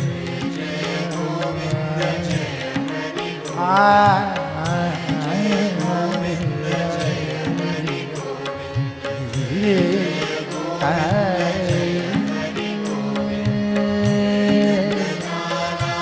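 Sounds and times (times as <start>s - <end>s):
devotional melody over drone: 0.0s - 16.0s
light percussion strikes: 0.0s - 16.0s.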